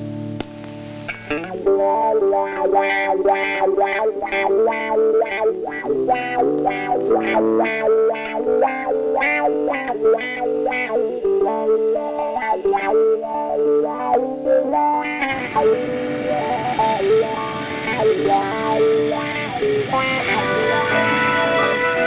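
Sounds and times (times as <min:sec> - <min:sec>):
picked guitar notes over chords: 0:00.0 - 0:22.0.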